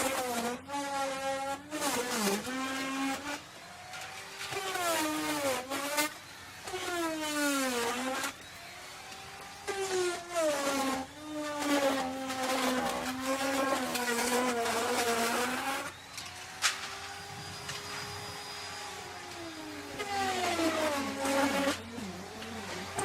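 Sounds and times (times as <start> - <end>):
wood router cutting wood: 0.0 - 23.0.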